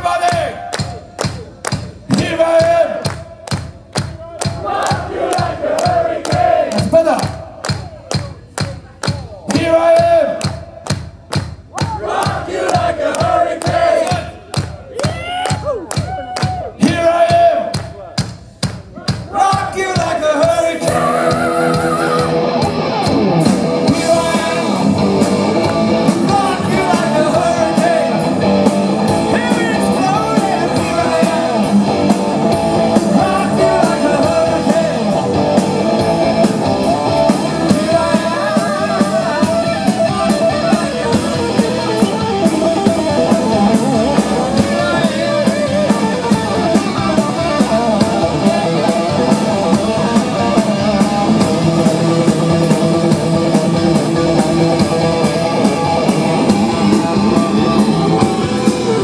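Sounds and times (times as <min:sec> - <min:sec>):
hard rock band playing: 0:00.0 - 0:08.2, 0:09.5 - 0:17.8, 0:18.6 - 0:59.0.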